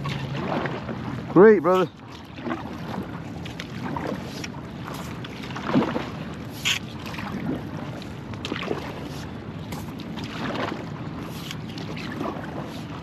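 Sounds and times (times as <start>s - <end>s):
paddle strokes in water: 0.0s - 13.0s
water lapping at board: 0.0s - 13.0s.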